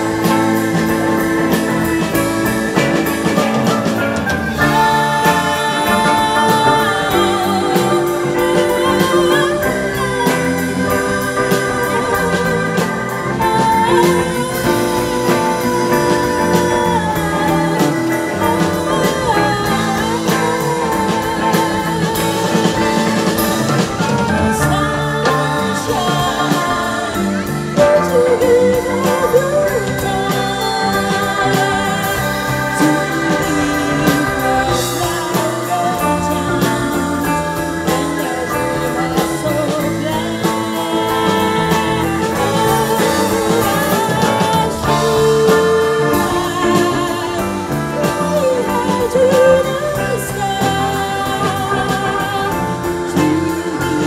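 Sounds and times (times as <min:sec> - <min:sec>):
live band playing: 0:00.0 - 0:54.0
trumpet: 0:00.0 - 0:54.0
woman singing: 0:00.0 - 0:54.0.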